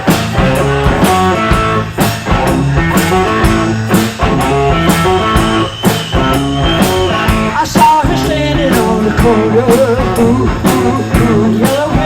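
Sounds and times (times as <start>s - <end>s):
bass line: 0.0s - 12.0s
drum beat: 0.0s - 12.0s
electric guitar chords: 0.0s - 12.0s.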